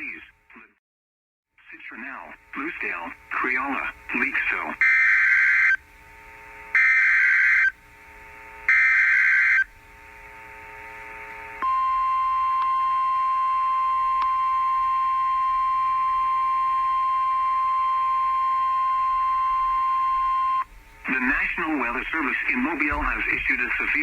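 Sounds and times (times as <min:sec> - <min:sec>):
steady warning alarm tone: 0:03.3 - 0:07.8, 0:08.4 - 0:10.8, 0:11.6 - 0:24.0.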